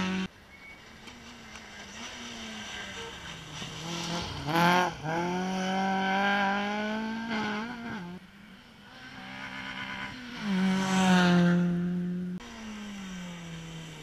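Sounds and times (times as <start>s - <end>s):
rally car engine revving past: 1.6s - 14.0s.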